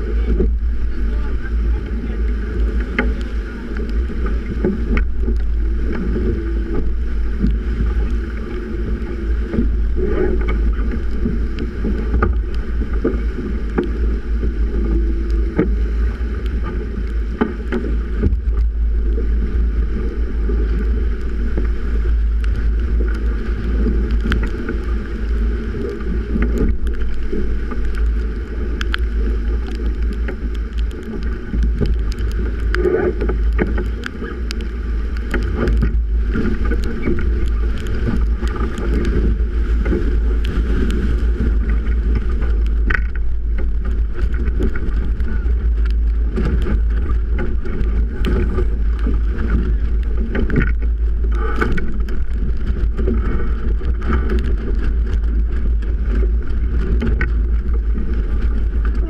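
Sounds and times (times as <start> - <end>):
water rushing along hull: 0.0 - 59.0
wind buffeting microphone: 0.0 - 59.0.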